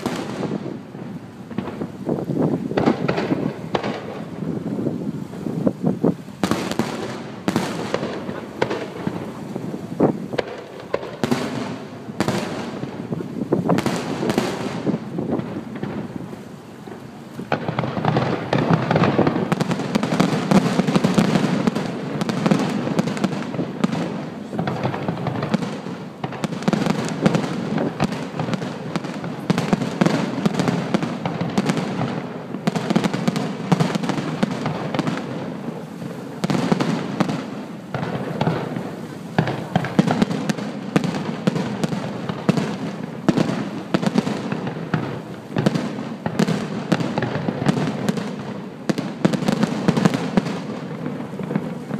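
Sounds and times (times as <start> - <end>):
fireworks booming: 0.0 - 51.9
fireworks crackling: 0.0 - 51.9.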